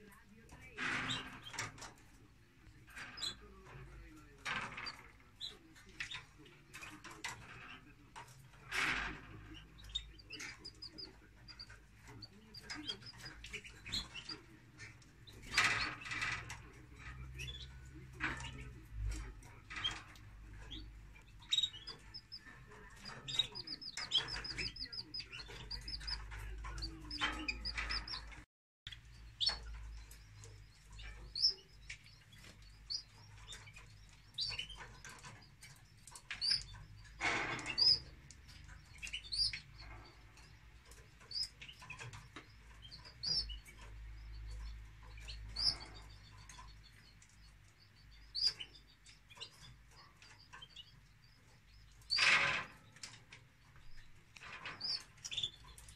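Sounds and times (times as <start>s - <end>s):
nestlings cheeping: 8.6s - 55.9s
bird chirps: 9.6s - 55.9s.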